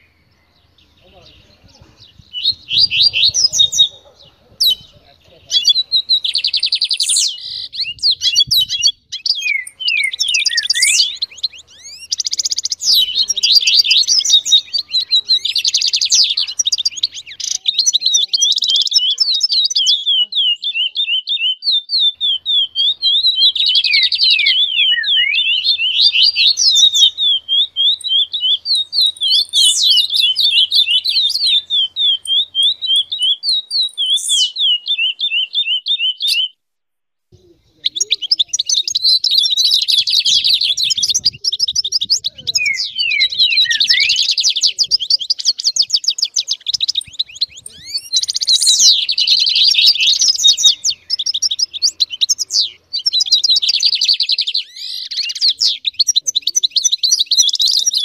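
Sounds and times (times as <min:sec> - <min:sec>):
songbirds singing: 0:00.0 - 0:36.6, 0:37.3 - 0:58.0.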